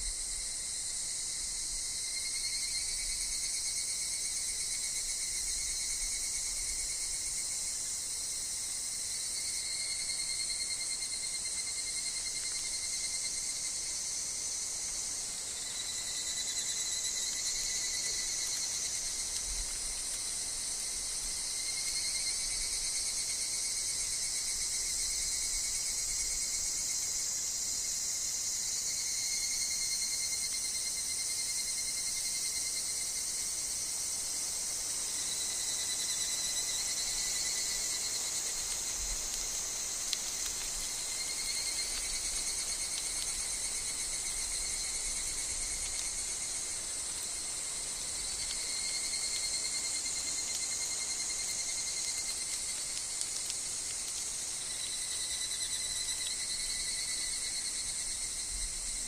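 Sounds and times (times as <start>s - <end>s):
insects chorus: 0.0s - 59.0s
low insect trill: 0.0s - 59.0s.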